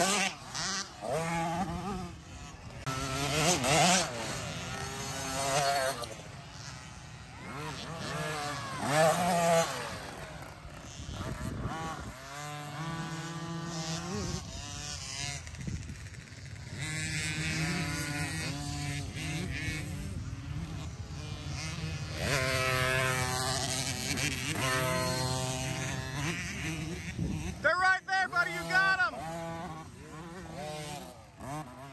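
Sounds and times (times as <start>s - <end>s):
dirt bike engines revving: 0.0s - 31.9s.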